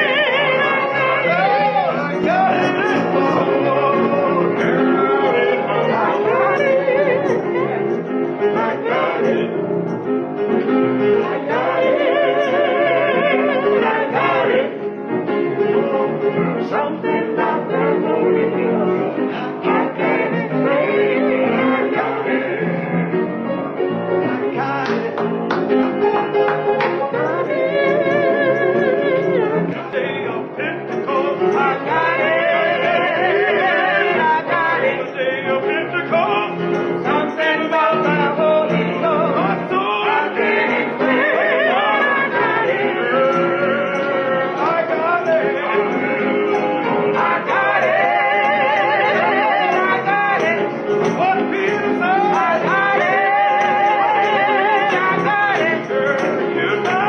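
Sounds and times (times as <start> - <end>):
gospel singing: 0.0 - 57.0
piano accompaniment: 0.0 - 57.0.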